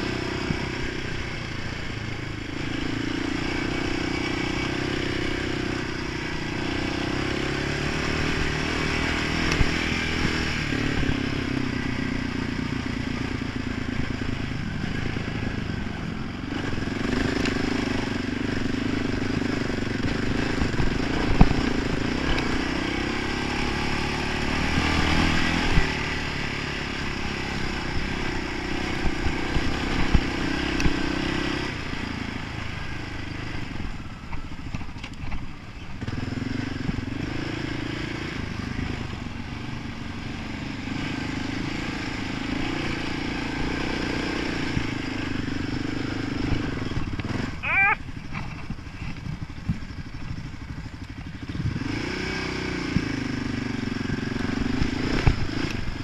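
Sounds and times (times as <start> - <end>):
quad engine revving: 0.0 - 33.9, 36.0 - 49.7, 51.0 - 56.0.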